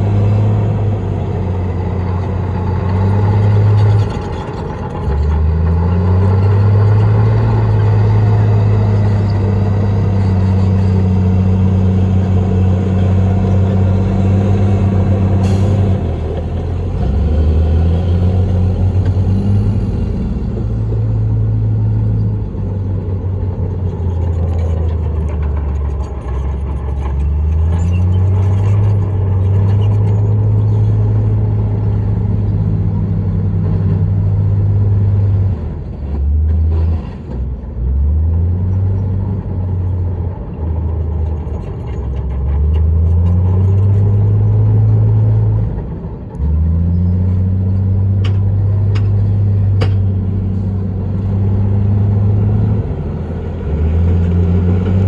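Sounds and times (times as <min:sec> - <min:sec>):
heavy diesel engine revving: 0:00.0 - 0:40.9, 0:42.4 - 0:55.0.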